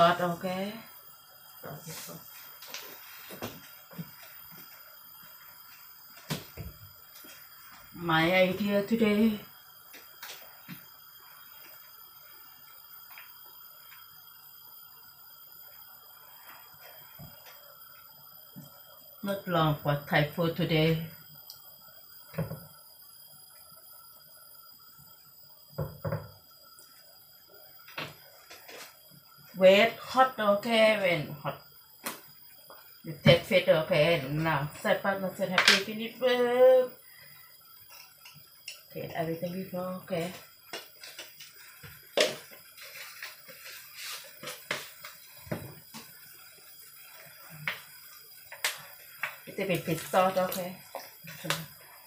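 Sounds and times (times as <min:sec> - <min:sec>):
soup boiling and bubbling: 0:00.0 - 0:08.8, 0:09.4 - 0:36.0, 0:36.9 - 0:52.0
faint steady hiss: 0:00.0 - 0:52.0.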